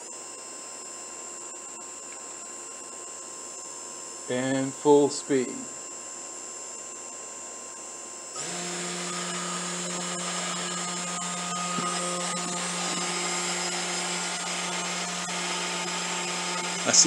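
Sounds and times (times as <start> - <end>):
spindle motor whining: 0.0 - 17.0.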